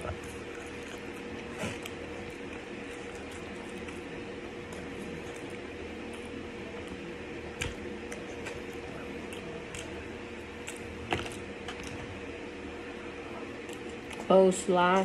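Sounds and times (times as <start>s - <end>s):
chewing crispy fries: 0.0s - 12.4s, 13.2s - 15.0s
low steady hum: 0.0s - 15.0s.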